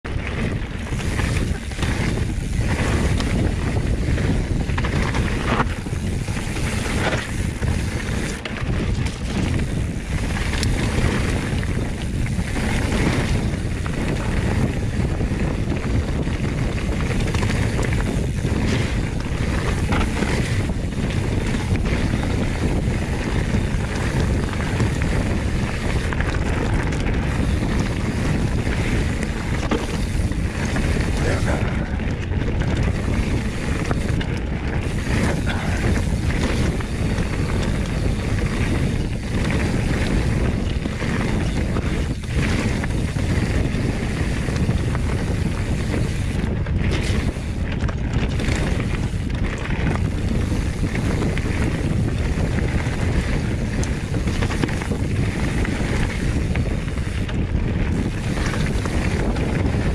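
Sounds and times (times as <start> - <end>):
wind buffeting microphone: 0.0 - 59.9
bike knocks and rattles: 0.1 - 59.9
tyre rumble: 0.1 - 59.9.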